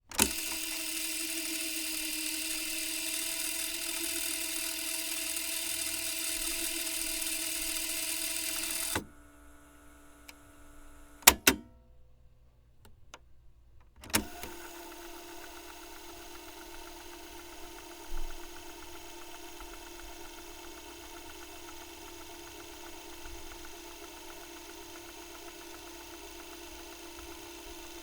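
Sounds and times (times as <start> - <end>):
sharp mechanical clicks: 0.1 - 9.1, 14.0 - 28.0
tape machine motor whirring: 0.1 - 11.4, 14.0 - 28.0.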